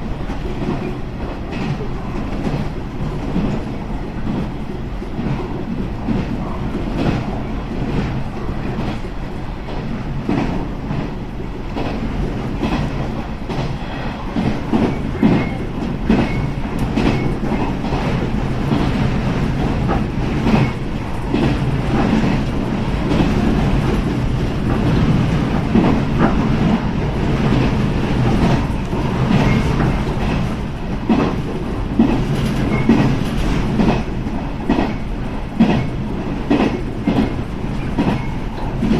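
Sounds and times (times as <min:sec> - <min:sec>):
train wheels rumbling: 0:00.0 - 0:38.9.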